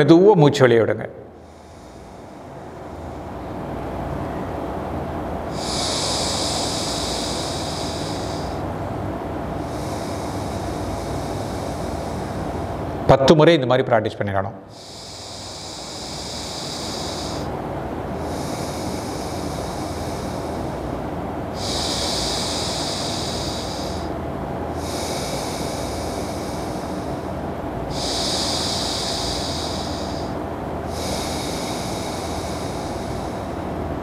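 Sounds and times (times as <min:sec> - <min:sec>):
breathing through one nostril: 0:01.4 - 0:13.0, 0:14.7 - 0:34.0.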